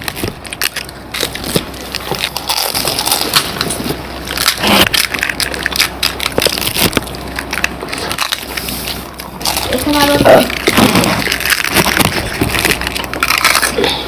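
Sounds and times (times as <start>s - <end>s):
crisp shells crackling and crunching: 0.0s - 14.0s.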